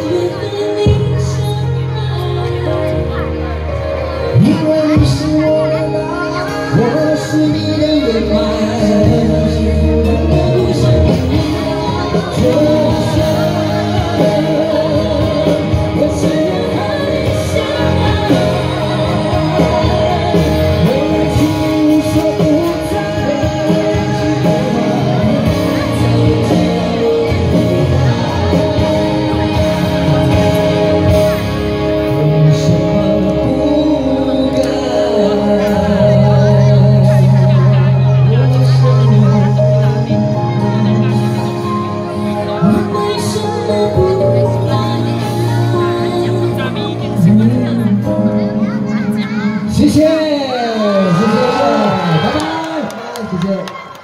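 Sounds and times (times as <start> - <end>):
loud instrumental backing: 0.0 - 54.0
man and woman singing duet: 0.0 - 54.0.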